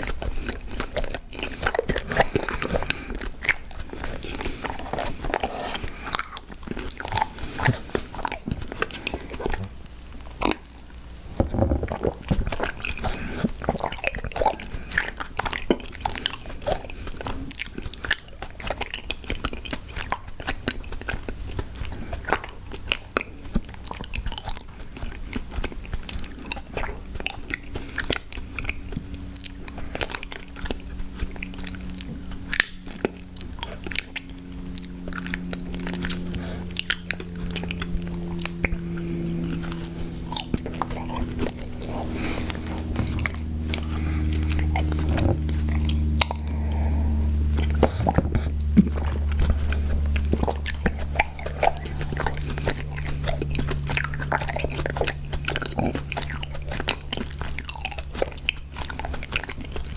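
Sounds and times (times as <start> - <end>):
person chewing crunchy cookies: 0.0 - 59.9.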